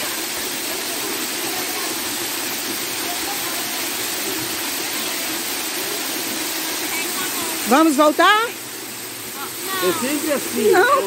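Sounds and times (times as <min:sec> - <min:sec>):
waterfall pouring onto rocks: 0:00.0 - 0:11.0.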